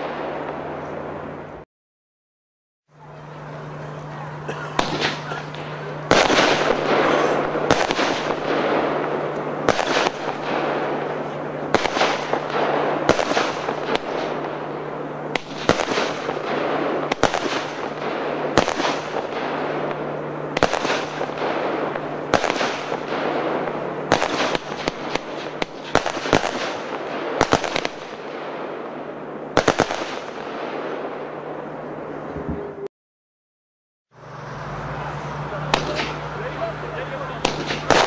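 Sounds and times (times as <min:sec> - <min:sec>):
firework reports: 0:00.0 - 0:01.6, 0:02.9 - 0:32.9, 0:34.2 - 0:38.0.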